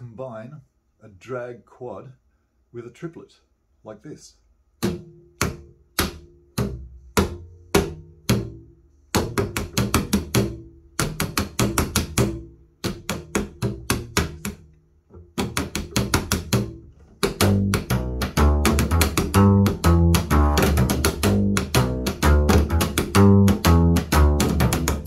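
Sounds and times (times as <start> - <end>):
slapped double bass: 4.7 - 25.0.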